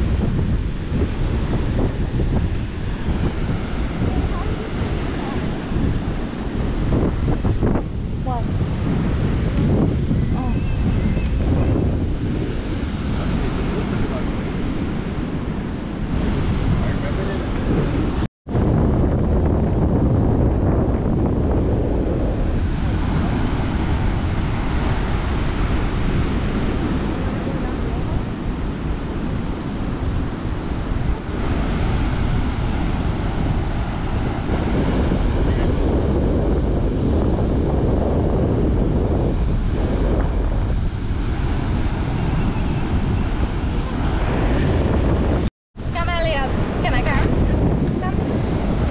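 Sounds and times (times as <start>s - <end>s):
ocean surf washing: 0.0s - 48.9s
wind buffeting microphone: 0.0s - 48.9s.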